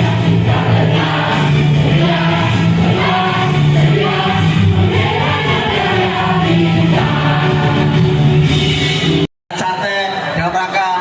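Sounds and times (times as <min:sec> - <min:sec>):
chorus of voices singing: 0:00.0 - 0:09.2
steady bass line: 0:00.0 - 0:09.3.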